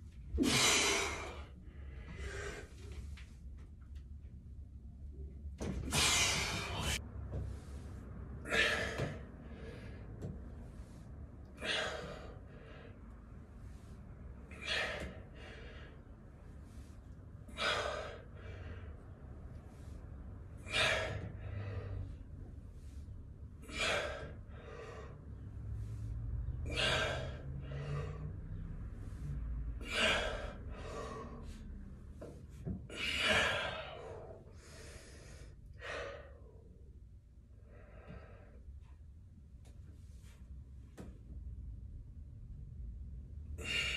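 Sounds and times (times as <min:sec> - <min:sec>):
man breathing forcefully: 0:00.1 - 0:03.2, 0:05.6 - 0:38.8, 0:43.5 - 0:43.9.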